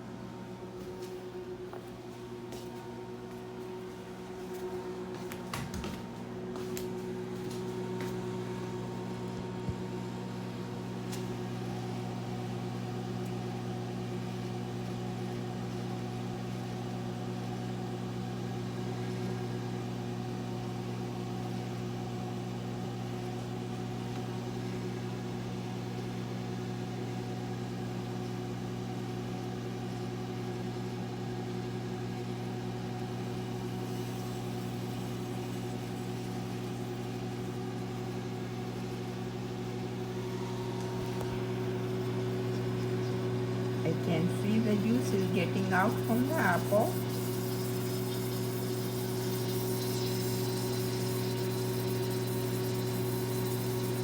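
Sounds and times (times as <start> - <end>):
microwave oven humming: 0.0 - 54.0.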